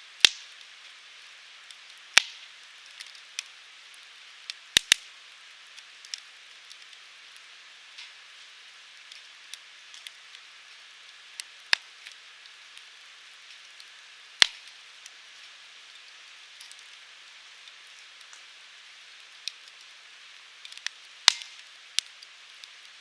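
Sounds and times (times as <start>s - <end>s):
wood fire crackling: 0.0s - 23.0s
fire popping: 0.2s - 0.8s, 1.6s - 8.4s, 9.0s - 18.6s, 19.2s - 23.0s.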